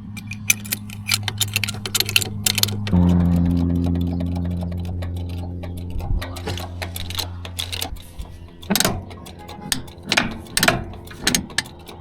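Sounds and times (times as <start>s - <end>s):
metal jack clicking: 0.0s - 3.0s, 4.8s - 12.0s
low steady hum: 0.0s - 12.0s.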